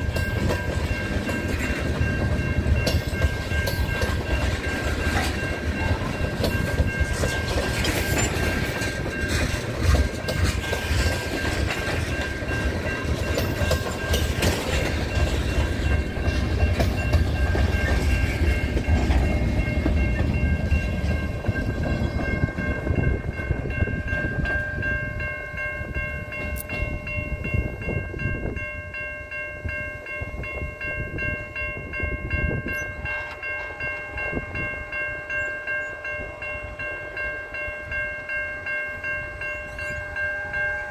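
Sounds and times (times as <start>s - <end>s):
level crossing warning bell: 0.0s - 40.9s
train wheels rumbling: 0.0s - 40.9s.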